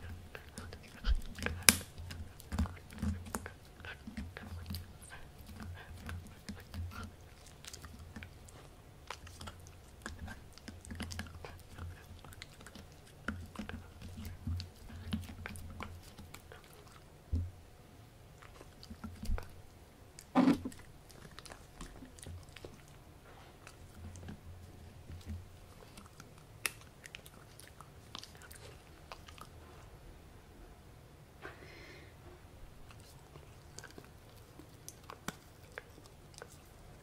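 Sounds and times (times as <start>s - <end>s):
dog chewing a dried chew: 0.0s - 17.5s, 18.3s - 29.9s, 32.8s - 37.0s.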